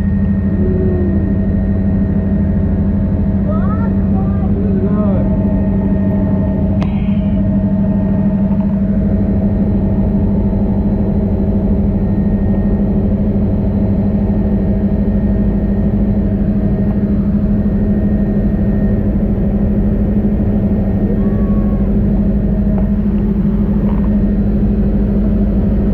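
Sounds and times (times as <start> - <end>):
helicopter running: 0.0 - 25.9.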